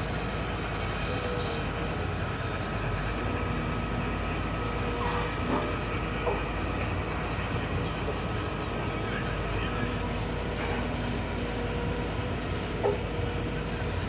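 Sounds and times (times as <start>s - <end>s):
excavator diesel engine running: 0.0s - 14.0s
thin steady whine: 0.0s - 14.0s.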